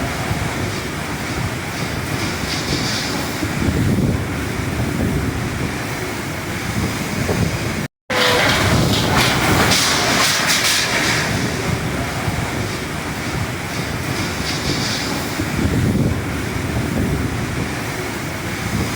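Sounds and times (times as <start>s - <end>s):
storm wind buffeting microphone: 0.0s - 18.9s.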